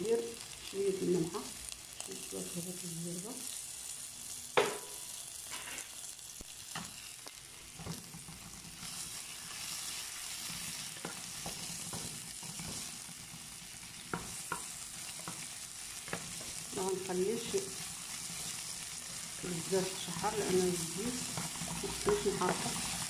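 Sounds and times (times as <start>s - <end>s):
onion sizzling in a frying pan: 0.0s - 23.0s.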